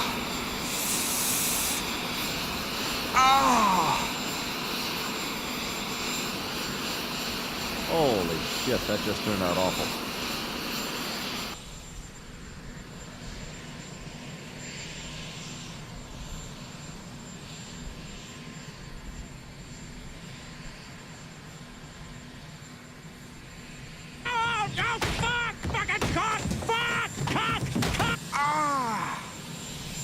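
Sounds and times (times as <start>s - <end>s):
aircraft engines droning: 0.0s - 30.0s.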